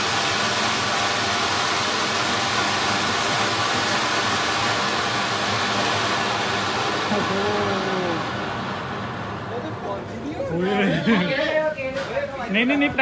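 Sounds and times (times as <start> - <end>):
fountain firework hissing: 0.0 - 13.0.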